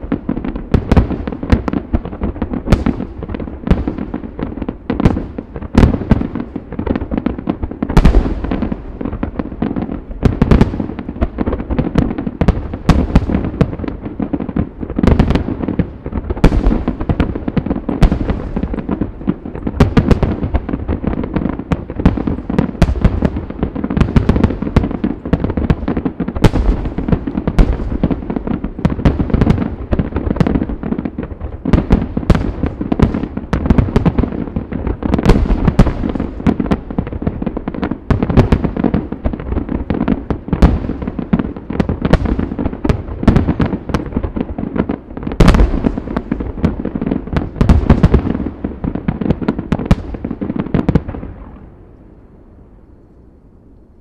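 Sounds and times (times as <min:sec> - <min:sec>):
loud firework booms: 0:00.0 - 0:51.9
fireworks crackling: 0:00.0 - 0:52.0.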